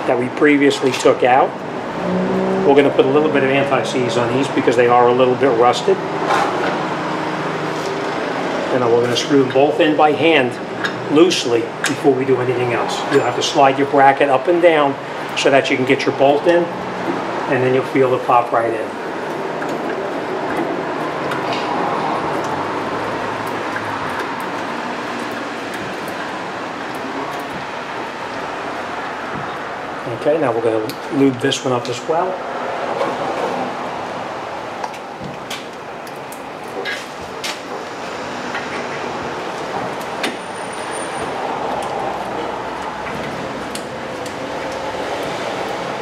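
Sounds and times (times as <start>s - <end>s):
workshop background noise: 0.0s - 46.0s.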